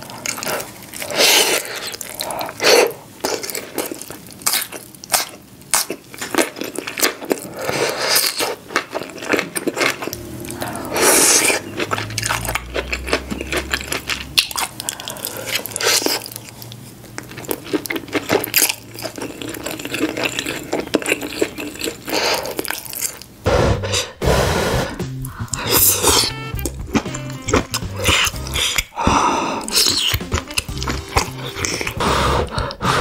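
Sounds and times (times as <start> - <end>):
crunching and chewing: 0.0 - 10.2, 11.4 - 23.4, 25.5 - 32.8.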